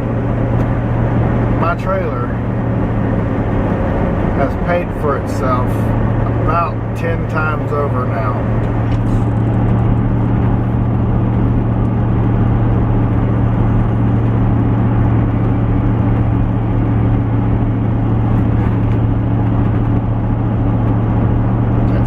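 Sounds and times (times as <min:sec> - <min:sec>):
road noise rush: 0:00.0 - 0:22.0
vehicle engine drone: 0:00.0 - 0:22.0.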